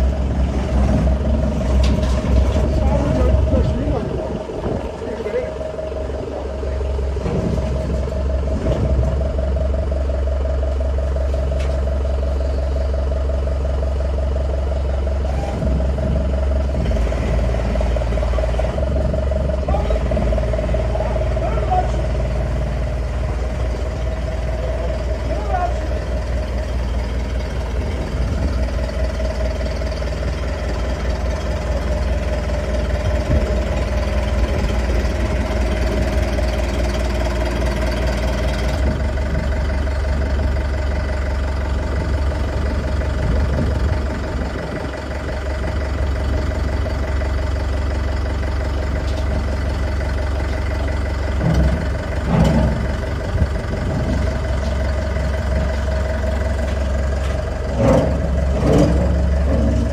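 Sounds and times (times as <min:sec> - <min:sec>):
pile-driving machine engine running: 0:00.0 - 0:59.9.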